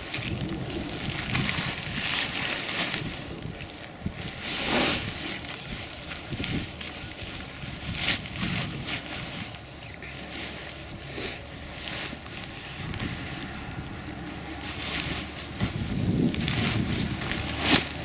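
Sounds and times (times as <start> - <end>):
tent fabric rustling: 0.0 - 18.0
wind noise on microphone: 0.0 - 18.0.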